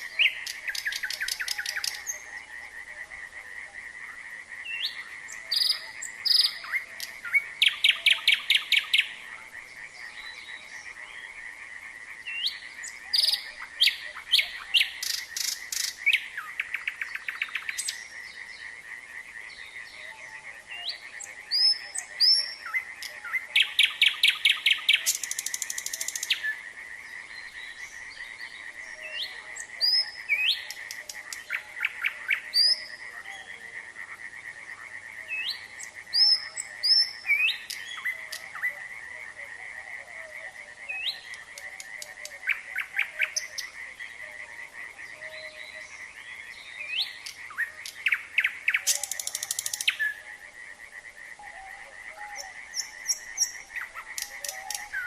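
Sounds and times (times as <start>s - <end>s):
frogs chorus trilling: 0.0s - 55.0s
nightingale singing: 0.0s - 55.0s.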